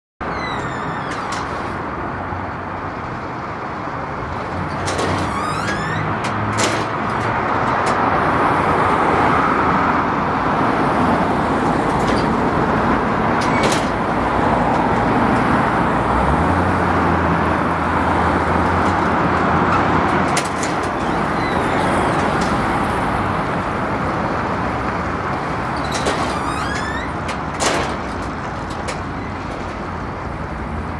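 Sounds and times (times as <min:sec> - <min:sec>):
billboard prisms creaking and squeaking: 0:00.2 - 0:03.3, 0:04.2 - 0:09.4, 0:10.8 - 0:23.6, 0:24.9 - 0:30.8
steady road traffic: 0:00.2 - 0:30.9.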